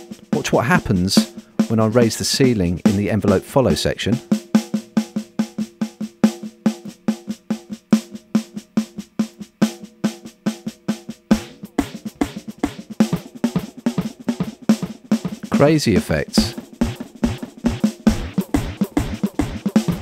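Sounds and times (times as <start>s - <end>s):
snare drum with delay repeats: 0.0s - 20.0s.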